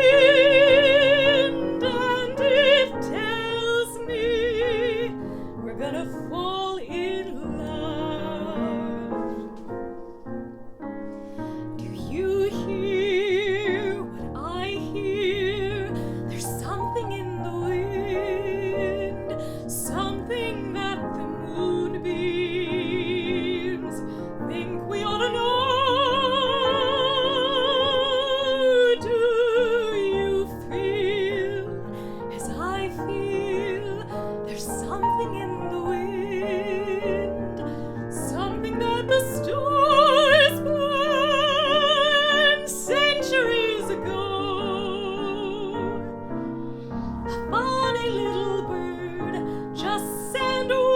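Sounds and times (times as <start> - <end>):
woman singing operatically: 0.0 - 9.5, 11.8 - 46.2, 47.3 - 50.9
piano accompaniment: 0.0 - 50.9.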